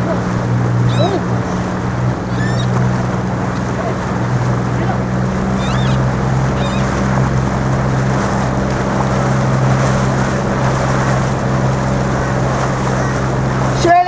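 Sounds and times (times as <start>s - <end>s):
motorboat engine humming: 0.0s - 14.0s
rushing water: 0.0s - 14.0s.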